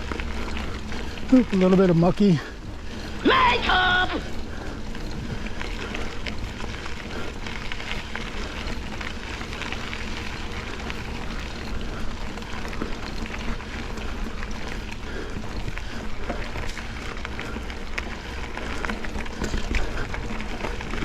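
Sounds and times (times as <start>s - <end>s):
bike clicks and rattles: 0.0s - 21.0s
bike tyres rumbling on dirt: 0.0s - 21.0s.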